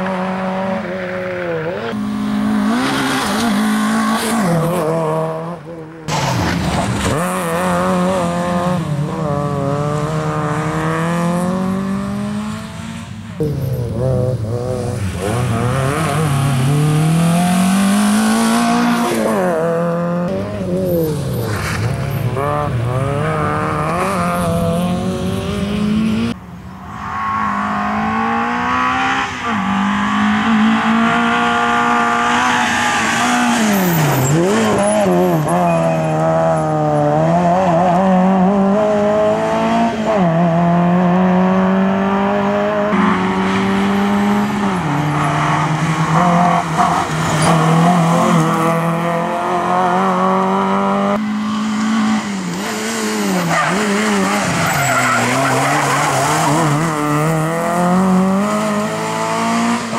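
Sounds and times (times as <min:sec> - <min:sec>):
rally car engine revving hard: 0:00.0 - 0:26.4, 0:27.7 - 0:59.9.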